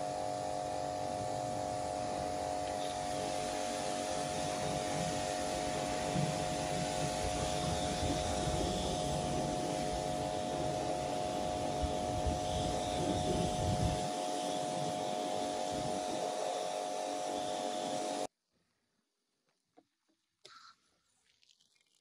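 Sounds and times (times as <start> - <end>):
pressure washer motor hum: 0.0 - 18.3
water jet spraying: 0.0 - 18.3.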